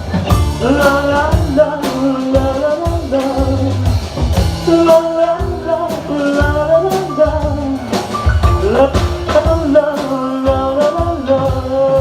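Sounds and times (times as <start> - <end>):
drum kit beat: 0.0 - 12.0
live rock band playing: 0.0 - 12.0.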